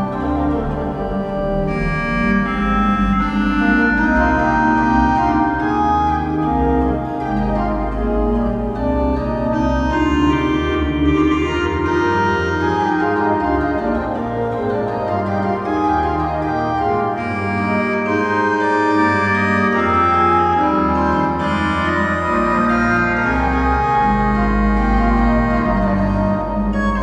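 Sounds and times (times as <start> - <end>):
deep organ pedal bass notes: 0.0 - 27.0
organ playing sustained chords: 0.0 - 27.0.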